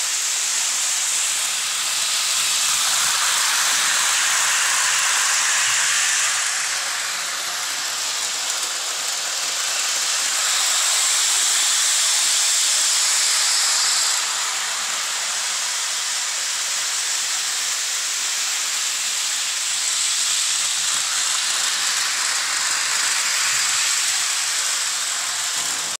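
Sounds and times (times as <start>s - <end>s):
model train whirring on rails: 0.0s - 26.0s.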